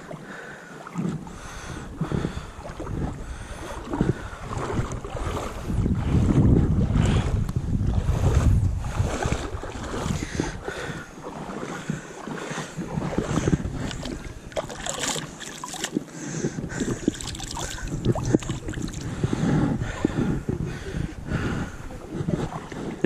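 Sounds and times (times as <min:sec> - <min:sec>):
feet wading through water: 0:00.0 - 0:23.0
wind buffeting microphone: 0:01.1 - 0:23.0.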